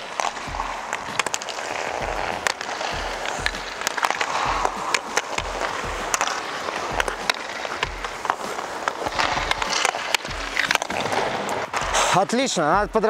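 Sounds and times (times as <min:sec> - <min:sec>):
hockey stick tapping puck: 0:00.0 - 0:12.5
skate blades scraping on ice: 0:00.0 - 0:12.6
slow background music: 0:00.0 - 0:13.0.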